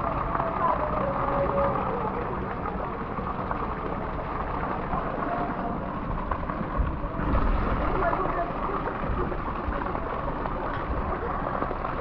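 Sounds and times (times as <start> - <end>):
muffled underwater rush: 0.0 - 12.0.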